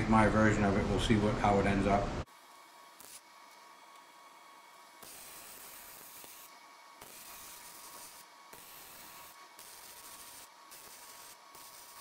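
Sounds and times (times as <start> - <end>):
arc welding hiss and crackle: 2.2 - 12.0.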